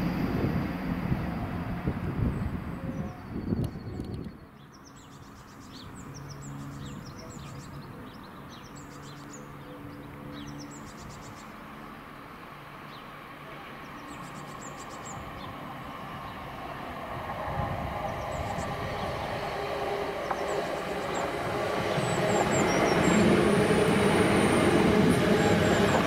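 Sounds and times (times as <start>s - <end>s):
distant electric train hum: 0.0s - 3.6s, 4.4s - 26.0s.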